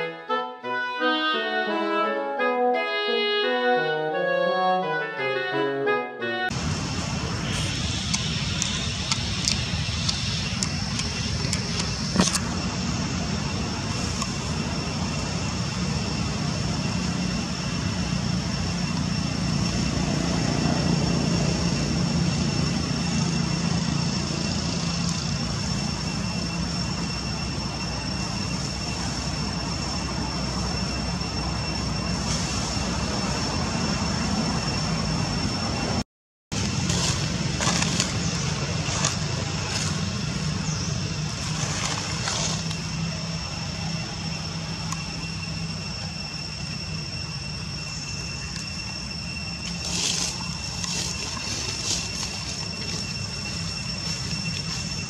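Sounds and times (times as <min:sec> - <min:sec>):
thin steady high tones: 0:06.5 - 0:36.0, 0:36.6 - 0:55.0.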